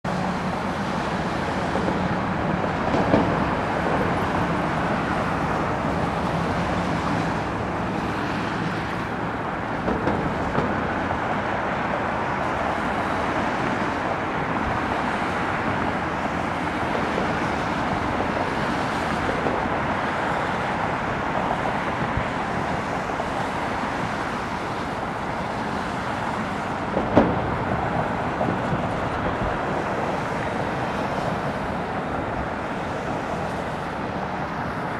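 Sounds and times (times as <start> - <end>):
airport noise: 0.0 - 34.9
road traffic roar: 0.0 - 34.9.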